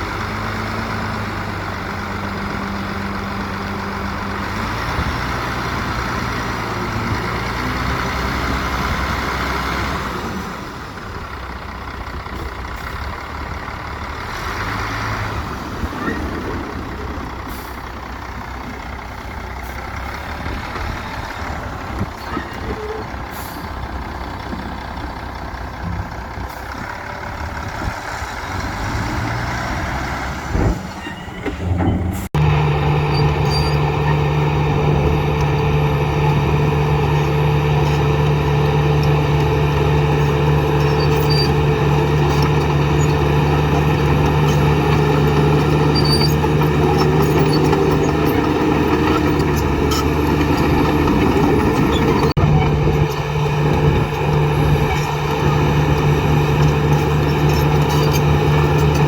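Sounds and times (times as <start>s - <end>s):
construction machinery working: 0.0s - 59.0s
diesel engine drone: 0.0s - 59.0s.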